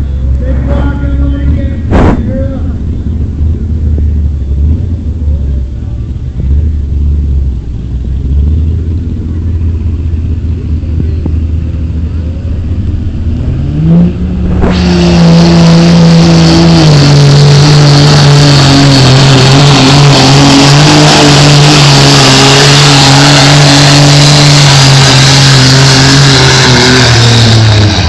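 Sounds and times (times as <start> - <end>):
truck engine revving: 0.0 - 28.0.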